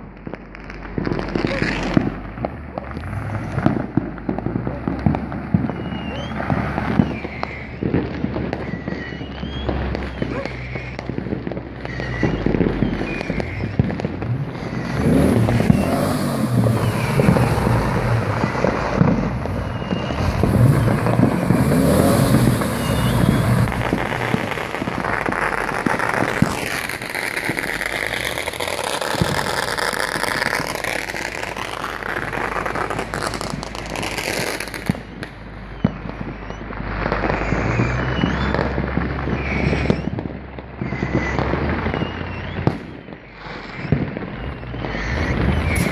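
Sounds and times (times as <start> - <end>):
fireworks bangs and crackling: 0.0 - 45.9
whistling fireworks: 0.0 - 45.9.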